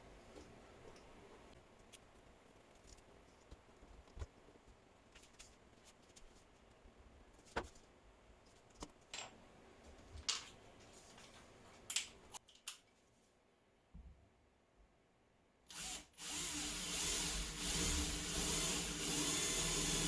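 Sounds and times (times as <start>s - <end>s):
faint steady background noise: 0.0s - 17.6s.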